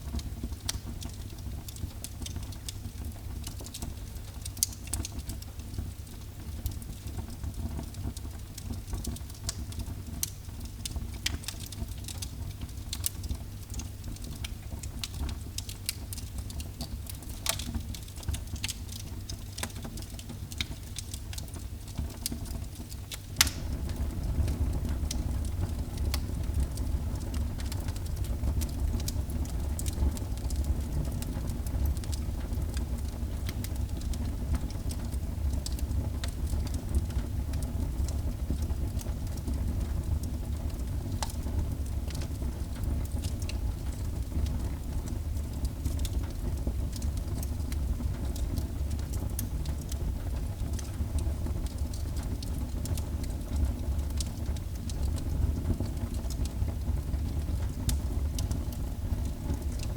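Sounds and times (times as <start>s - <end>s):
fire low rumble: 0.0s - 59.9s
wood fire crackling and popping: 0.0s - 59.9s.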